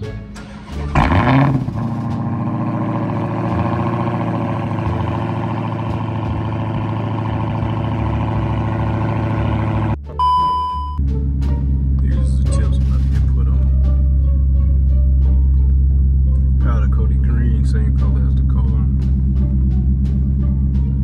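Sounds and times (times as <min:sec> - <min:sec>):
car engine starting and idling: 0:00.0 - 0:21.0.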